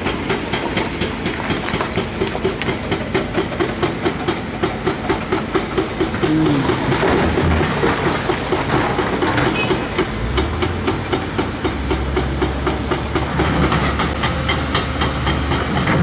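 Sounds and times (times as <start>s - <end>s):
excavator diesel engine drone: 0.0s - 16.0s.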